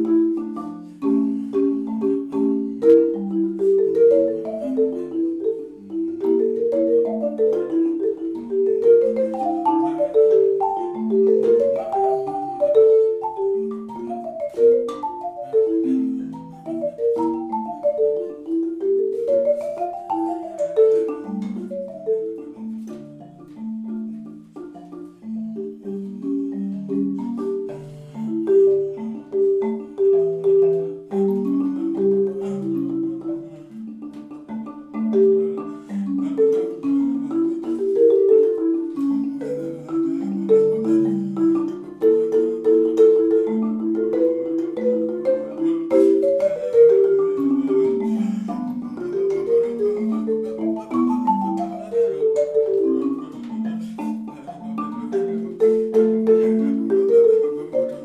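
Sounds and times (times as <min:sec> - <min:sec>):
marimba melody: 0:00.0 - 0:58.0.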